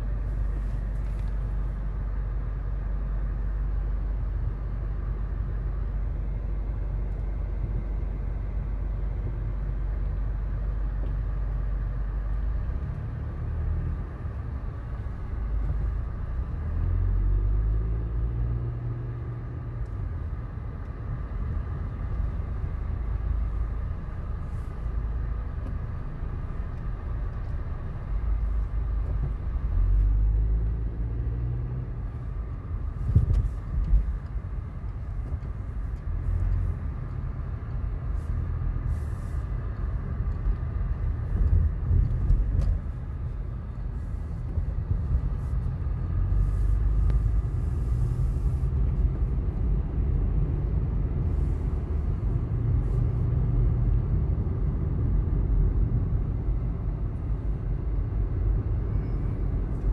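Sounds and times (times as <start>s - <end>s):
car engine rumble: 0.0s - 59.9s
road noise inside car: 0.0s - 59.9s.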